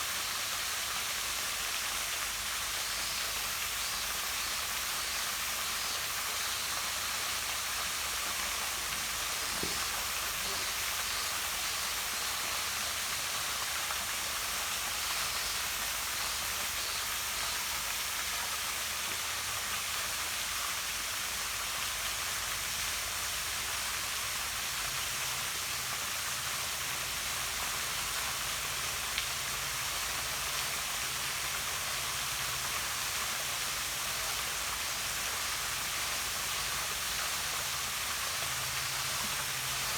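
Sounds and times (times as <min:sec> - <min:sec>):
waterfall splashing into pond: 0:00.0 - 0:39.9.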